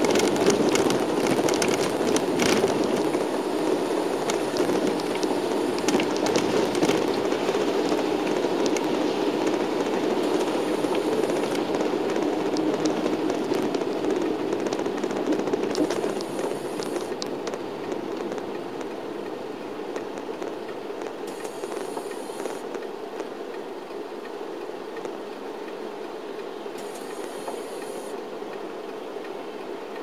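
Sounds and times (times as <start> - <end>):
tyre noise on wet road: 0.0 - 29.8
bus cabin drone: 0.0 - 30.0
light ticks: 0.0 - 30.0.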